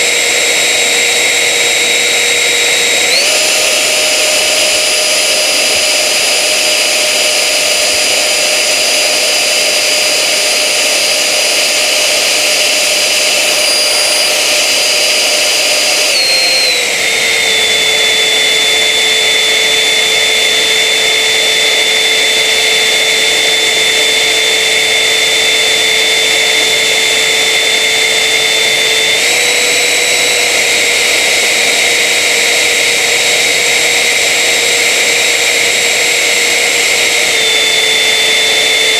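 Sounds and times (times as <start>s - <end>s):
ducted fan jet whine: 0.0s - 38.9s.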